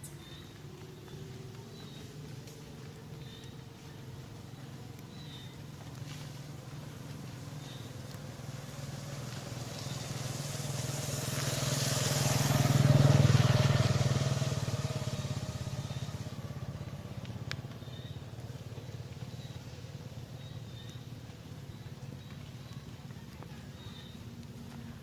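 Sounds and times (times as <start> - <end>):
motorbike engine passing by: 0.0 - 25.0.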